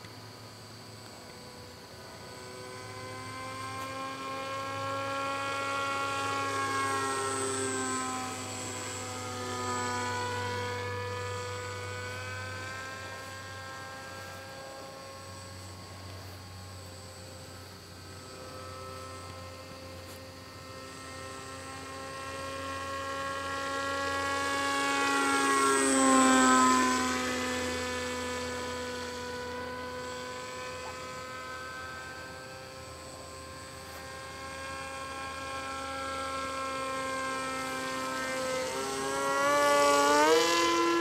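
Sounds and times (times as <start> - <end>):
model airplane motor whining: 0.0 - 41.0.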